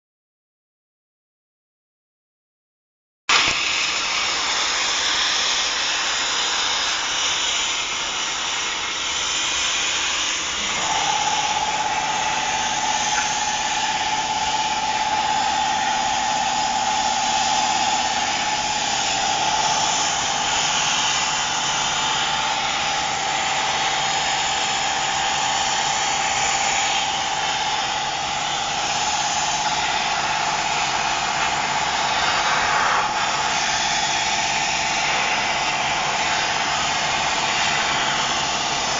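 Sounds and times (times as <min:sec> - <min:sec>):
machine hiss: 0:03.3 - 0:38.9
steady machine tone: 0:04.0 - 0:38.9.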